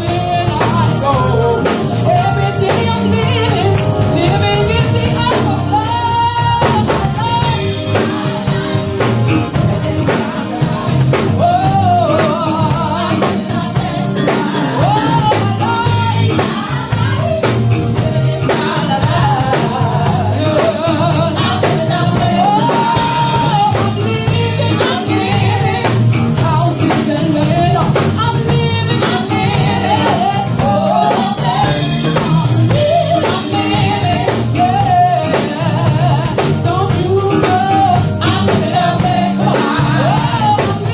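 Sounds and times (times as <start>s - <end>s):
band with drums: 0.0s - 40.9s
woman singing gospel: 0.0s - 40.9s.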